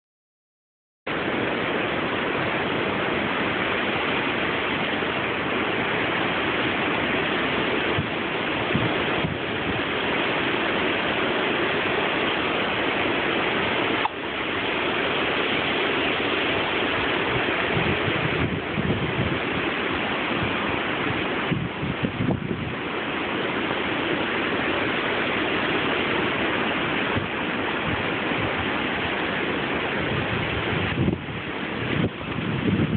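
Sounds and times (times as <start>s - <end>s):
wind and rain rushing: 1.1s - 32.9s.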